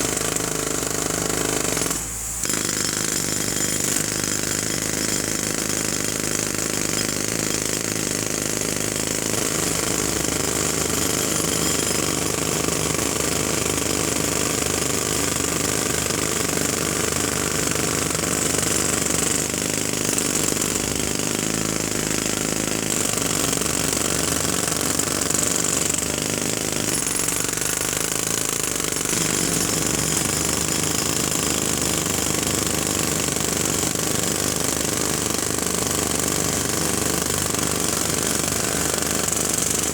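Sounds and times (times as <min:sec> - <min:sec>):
jackhammer hammering: 0:00.0 - 0:39.9.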